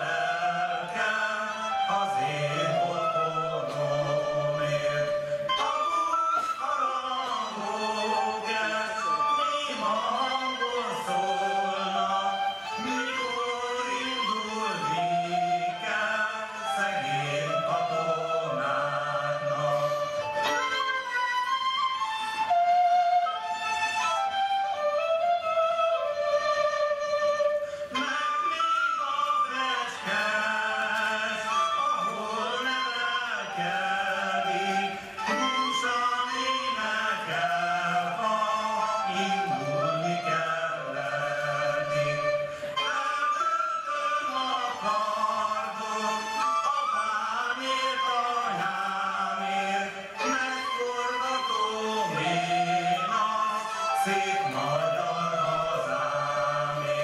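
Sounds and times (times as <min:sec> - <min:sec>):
group singing folk song: 0:00.0 - 0:57.0.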